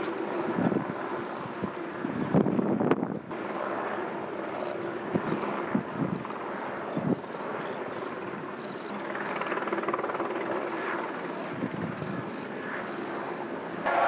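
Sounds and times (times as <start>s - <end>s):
helicopter droning overhead: 0.0s - 14.0s
helicopter rotor beat: 0.0s - 14.0s.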